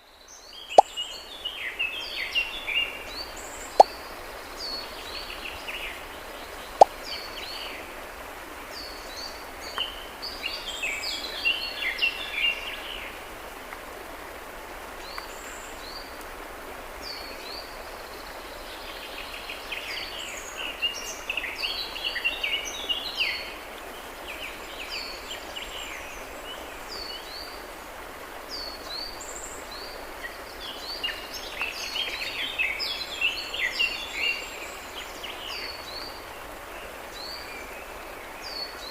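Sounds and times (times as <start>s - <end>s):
steady outdoor hiss: 0.0s - 38.9s.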